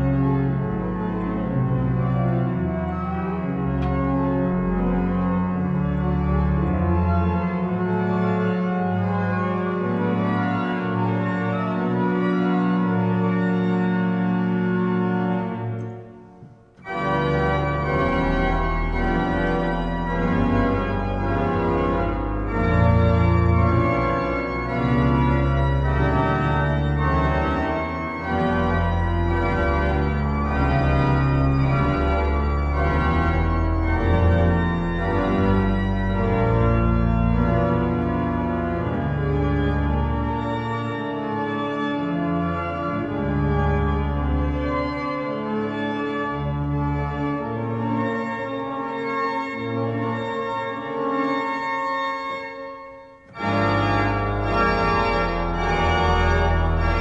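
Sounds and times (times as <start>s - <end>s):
organ chords: 0.0s - 57.0s.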